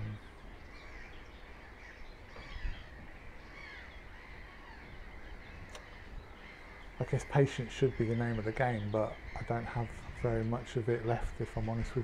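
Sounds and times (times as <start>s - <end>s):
wild birds calling: 0.0s - 12.0s.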